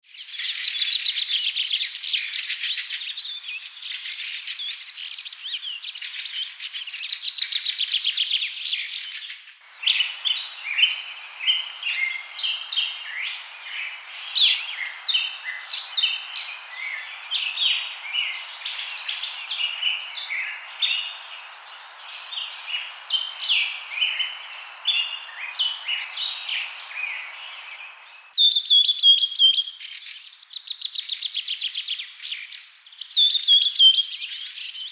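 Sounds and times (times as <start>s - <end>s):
songbirds chirping and trilling: 0.0s - 34.9s.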